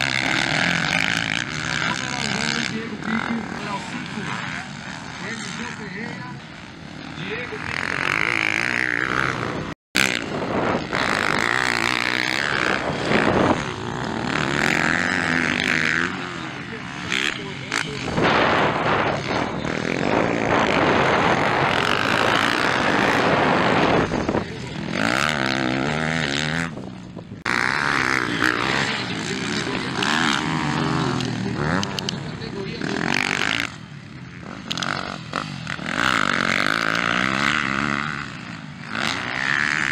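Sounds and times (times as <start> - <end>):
dirt bike engines racing: 0.0 - 39.9.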